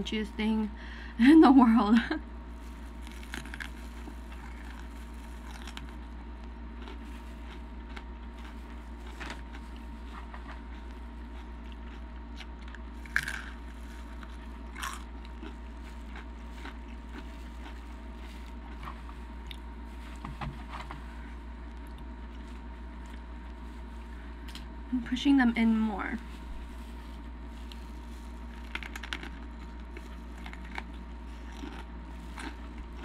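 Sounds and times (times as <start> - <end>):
chewing crunchy chips: 2.6 - 24.6, 26.4 - 33.0.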